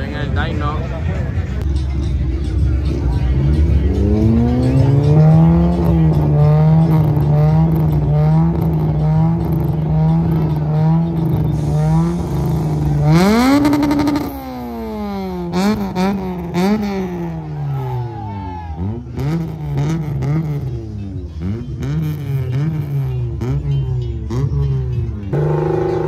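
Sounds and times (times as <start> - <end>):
car engine revving: 1.1 - 26.0.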